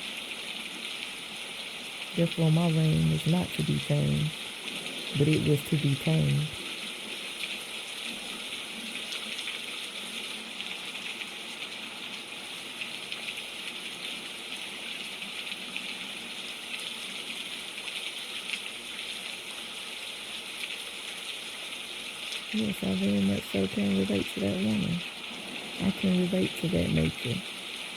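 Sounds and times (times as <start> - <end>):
patter of raindrops: 0.0 - 27.9
steady rain hiss: 0.0 - 27.9.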